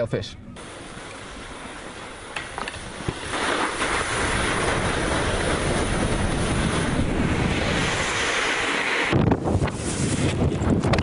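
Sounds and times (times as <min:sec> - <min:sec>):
wind on microphone: 0:00.4 - 0:11.0
snowboard sliding over snow: 0:00.6 - 0:11.0.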